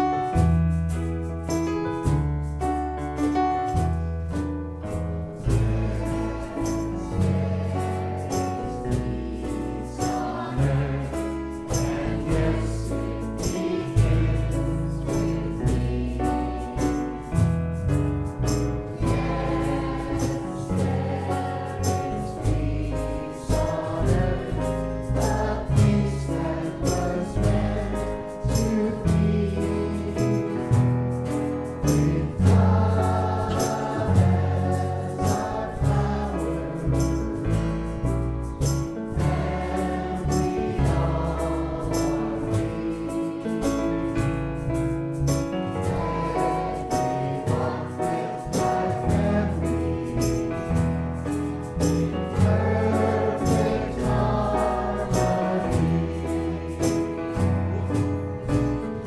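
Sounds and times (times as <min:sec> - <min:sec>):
piano: 0:00.0 - 0:59.0
choir singing: 0:05.4 - 0:17.4, 0:18.9 - 0:30.9, 0:31.7 - 0:37.7, 0:38.9 - 0:44.3, 0:45.6 - 0:58.2.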